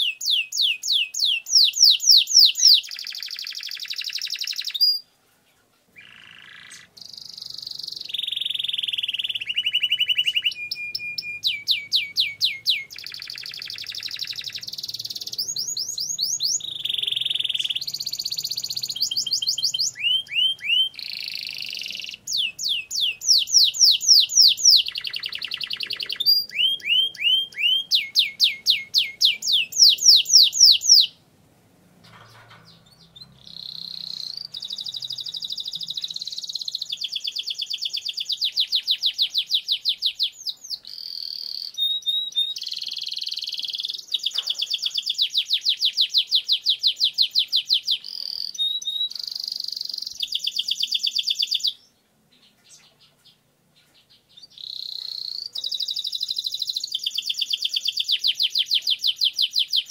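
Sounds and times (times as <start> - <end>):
canary singing trills: 0.0 - 5.1, 5.9 - 31.2, 32.0 - 59.9.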